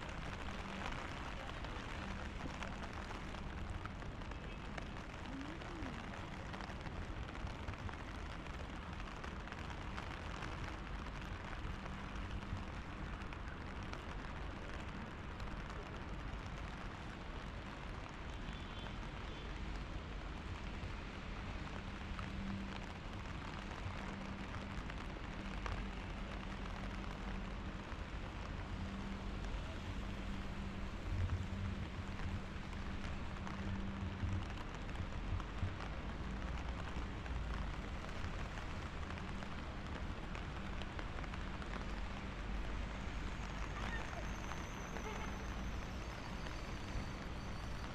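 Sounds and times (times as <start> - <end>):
rain on a paved street: 0.0 - 47.9.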